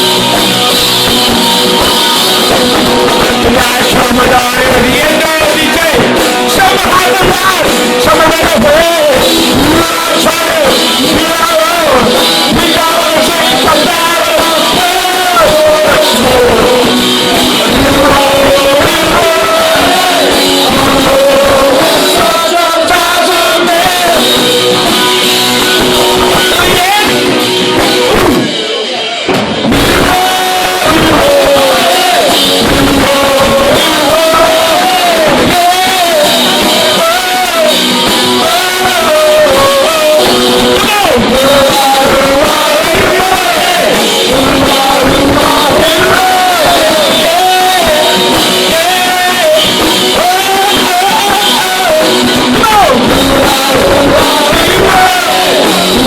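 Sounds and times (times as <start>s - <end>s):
punk rock song: 0.0s - 56.0s.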